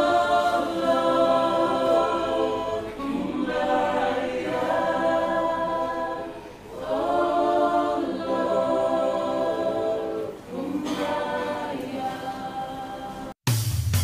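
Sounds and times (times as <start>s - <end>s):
choir singing a hymn: 0.0s - 13.4s.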